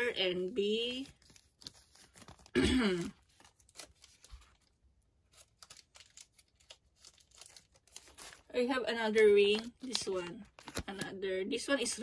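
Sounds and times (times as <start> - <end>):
plastic bags crinkling: 0.6 - 12.0.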